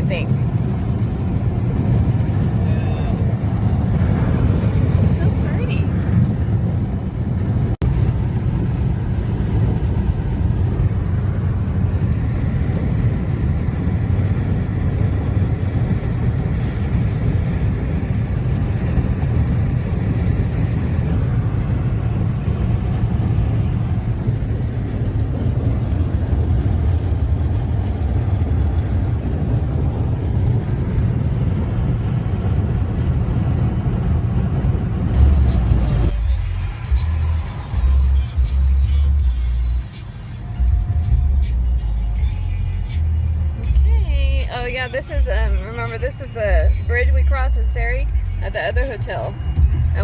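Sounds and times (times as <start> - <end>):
car cabin road rumble: 0.0 - 50.0.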